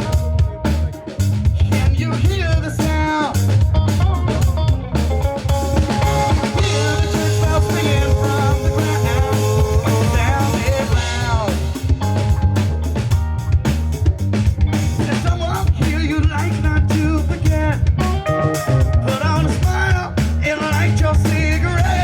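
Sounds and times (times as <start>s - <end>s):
drum kit: 0.0s - 22.0s
electric bass: 0.0s - 22.0s
electric guitar sliding notes: 3.3s - 22.0s.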